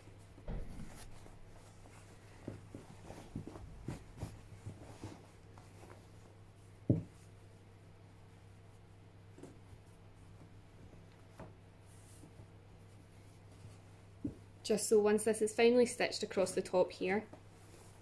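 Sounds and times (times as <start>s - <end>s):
fabric rustling and brushing: 0.0s - 9.0s, 9.6s - 14.4s, 17.4s - 18.0s
low steady hum: 0.0s - 18.0s.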